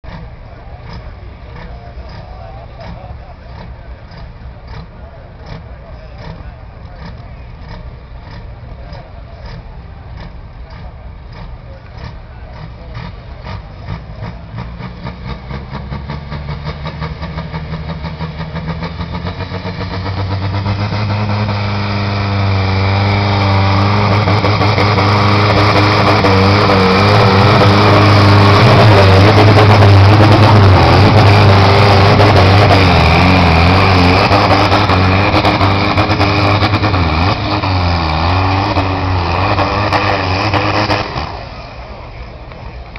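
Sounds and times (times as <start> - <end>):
tractor diesel engine pulling: 0.0 - 42.9.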